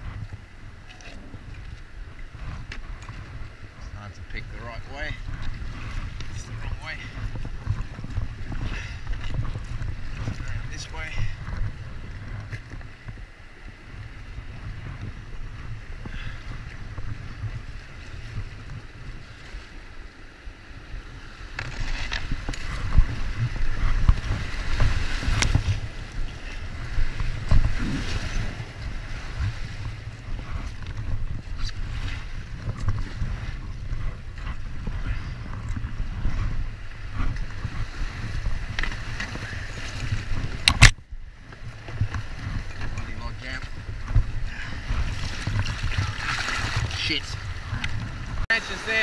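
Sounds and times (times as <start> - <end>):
river water rushing and splashing: 0.0 - 41.0, 41.6 - 49.0
wind buffeting microphone: 0.0 - 49.0.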